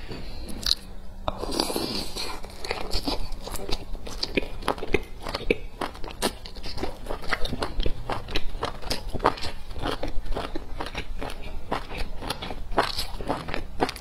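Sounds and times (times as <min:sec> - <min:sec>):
chewing with wet mouth smacks: 0:01.5 - 0:14.0.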